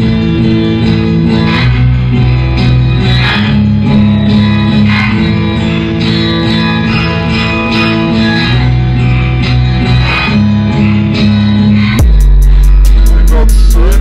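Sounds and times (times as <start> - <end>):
music with sustained chords: 0.0 - 14.0.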